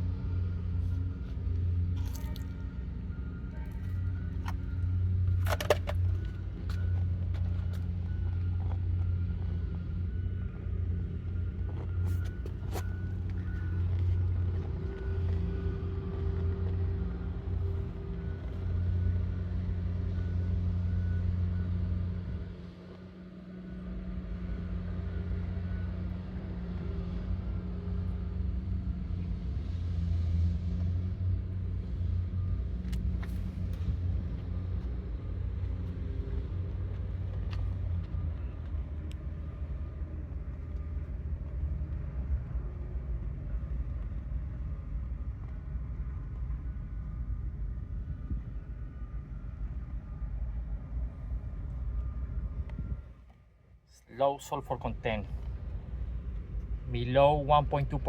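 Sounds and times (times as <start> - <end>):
machinery humming rumble: 0.0 - 58.0.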